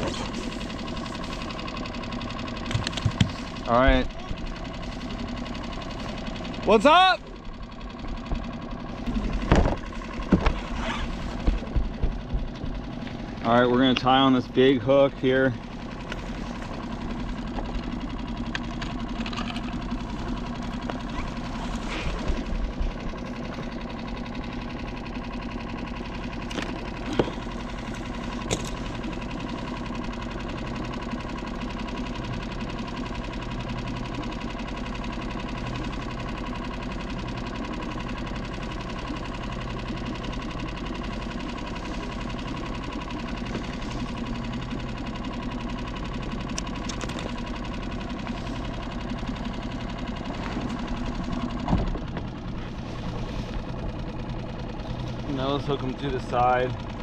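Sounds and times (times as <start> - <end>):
boat engine idling: 0.0 - 57.0.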